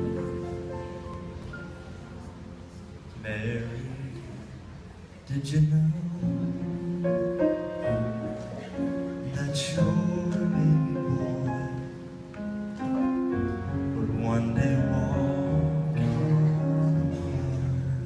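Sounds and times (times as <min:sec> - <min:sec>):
keyboard accompaniment: 0:00.0 - 0:04.8, 0:05.4 - 0:18.0.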